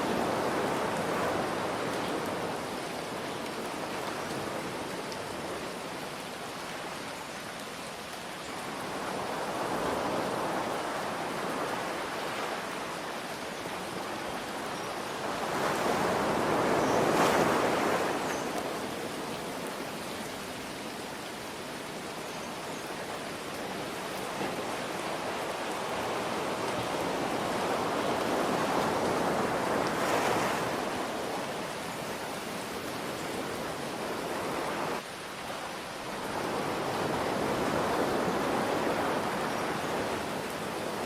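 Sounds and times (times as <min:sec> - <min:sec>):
ocean waves washing in: 0:00.0 - 0:07.3, 0:08.1 - 0:22.1, 0:22.7 - 0:41.0.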